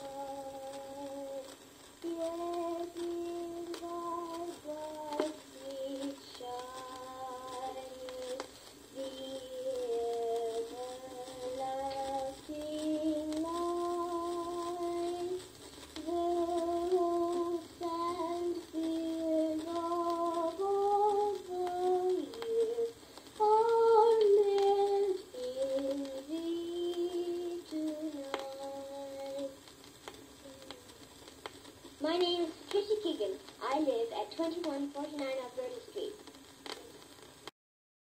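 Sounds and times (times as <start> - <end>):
person singing slow tune: 0.0 - 31.3
vinyl surface hiss: 0.0 - 37.5.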